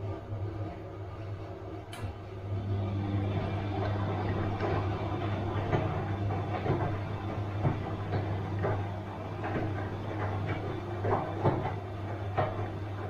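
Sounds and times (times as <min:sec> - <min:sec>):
washing machine drum churning: 0:00.0 - 0:13.0
washing machine motor hum: 0:00.0 - 0:13.0.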